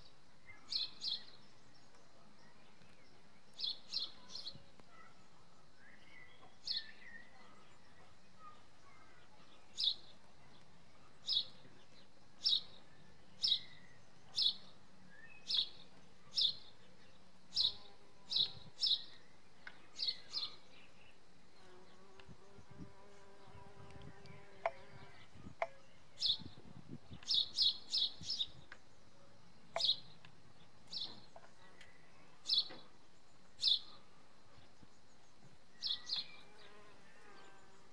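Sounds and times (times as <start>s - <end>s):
bird chirping: 0.0s - 29.0s, 29.8s - 37.9s.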